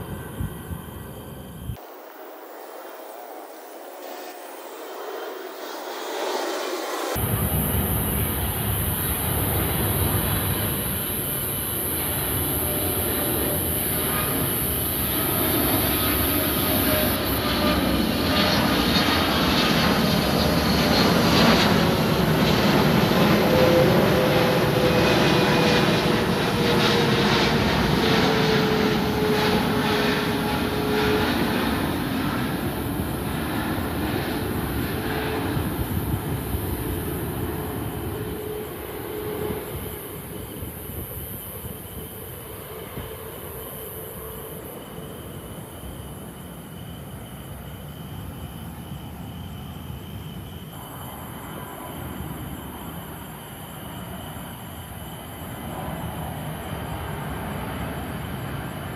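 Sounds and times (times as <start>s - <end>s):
jet airliner passing overhead: 0.0s - 58.9s.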